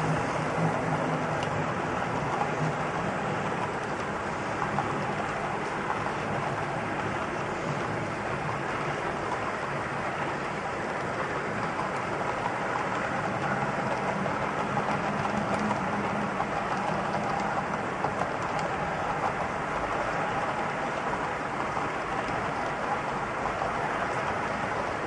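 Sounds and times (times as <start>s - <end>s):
model train wheels rumbling on rails: 0.0s - 25.0s.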